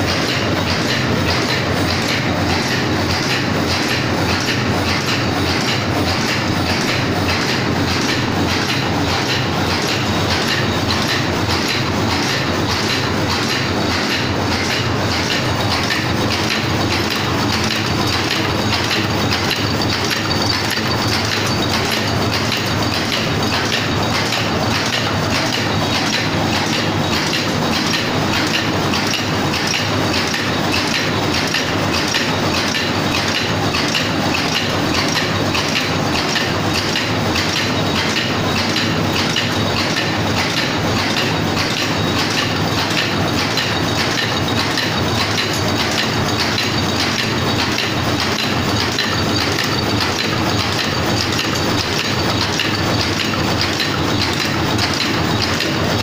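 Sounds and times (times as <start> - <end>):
fast rhythmic machine clicks: 0.0 - 56.0
machine clattering: 0.0 - 56.0.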